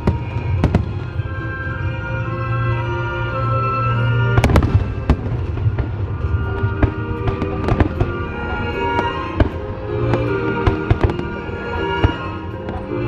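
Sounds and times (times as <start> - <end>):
fireworks exploding: 0.0 - 1.8, 4.0 - 13.0
fireworks crackling: 0.0 - 2.3, 4.0 - 13.0
music: 0.0 - 13.0.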